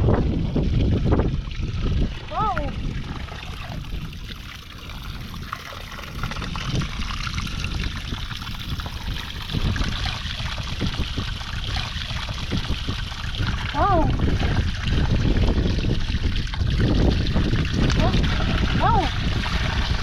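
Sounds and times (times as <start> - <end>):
low splashes: 0.0 - 20.0
shallow water trickling: 0.0 - 20.0.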